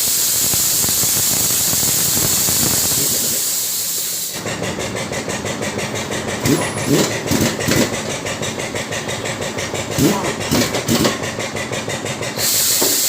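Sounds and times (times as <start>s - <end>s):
engine running with ticking clatter: 0.0s - 13.0s.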